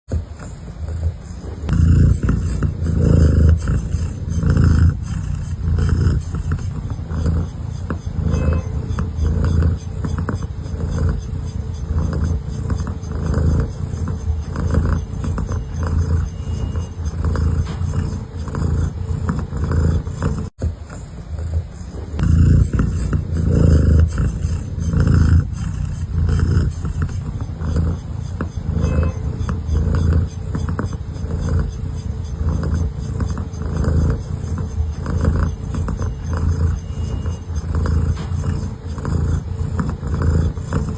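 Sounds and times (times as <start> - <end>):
cat purring: 0.1 - 40.9.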